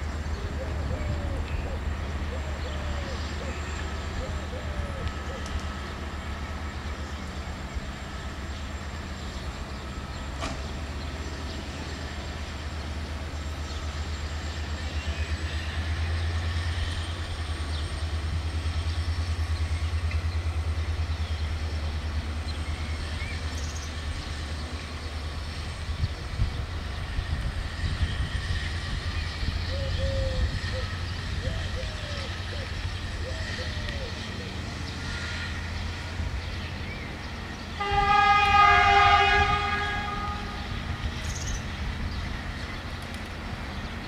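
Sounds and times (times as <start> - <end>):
diesel locomotive engine rumbling: 0.0 - 44.0.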